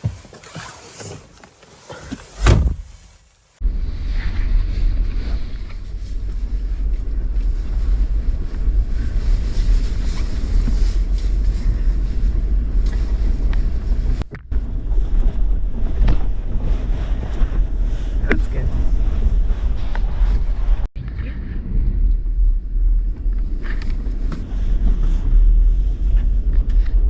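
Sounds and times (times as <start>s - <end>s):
vehicle engine rumble: 0.0s - 27.0s
wind buffeting microphone: 3.6s - 27.0s.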